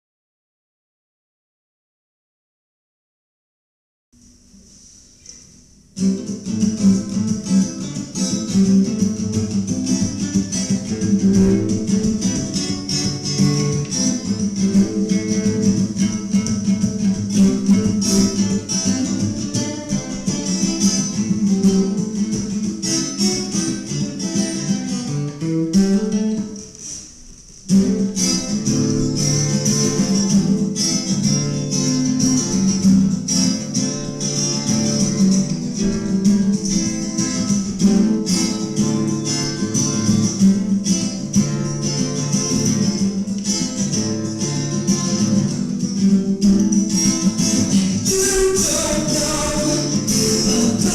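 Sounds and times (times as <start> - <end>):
acoustic guitar playing blues: 4.6 - 50.9.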